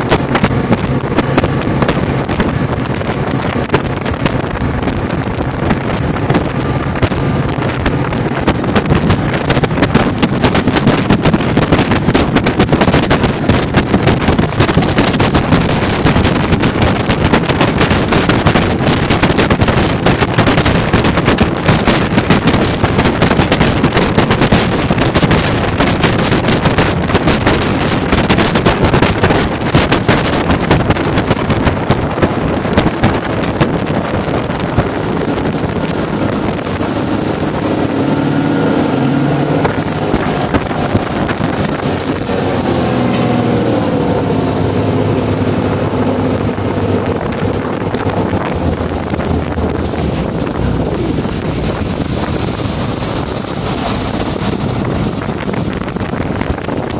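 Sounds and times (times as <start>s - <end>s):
boat engine hum: 0.0s - 56.9s
water rushing past boat: 0.0s - 56.9s
wind buffeting microphone: 0.0s - 56.9s.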